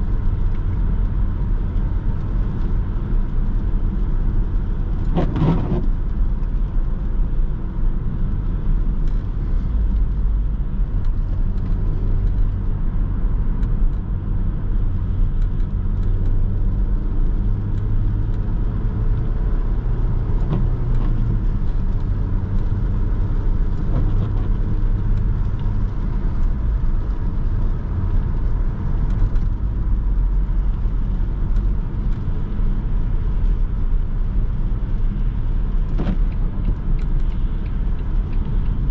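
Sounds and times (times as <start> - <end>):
tyre noise on wet road: 0.0 - 38.9.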